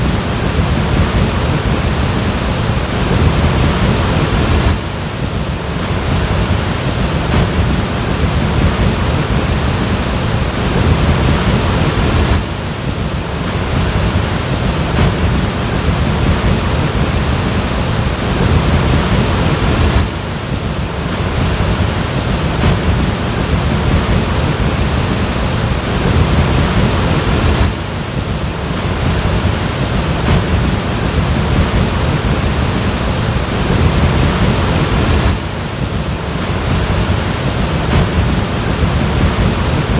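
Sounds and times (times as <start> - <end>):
loud rushing noise with low rumble: 0.0 - 39.9.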